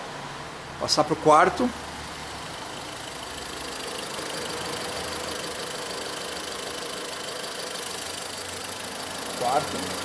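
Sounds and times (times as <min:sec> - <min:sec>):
car engine idling: 0:00.3 - 0:10.0.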